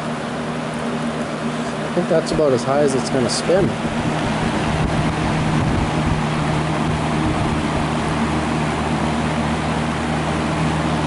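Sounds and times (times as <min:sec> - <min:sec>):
box fan running: 0:00.0 - 0:11.0.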